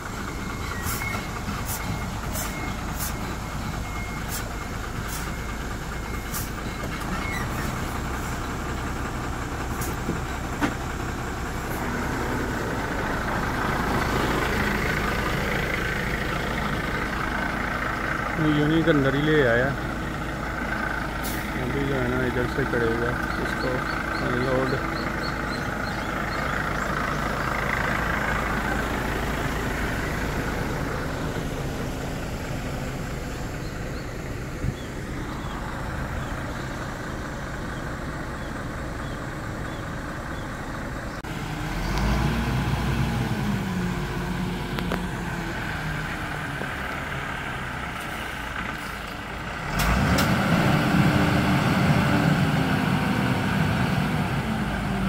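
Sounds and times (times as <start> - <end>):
diesel truck engine idling and revving: 0.0 - 55.0.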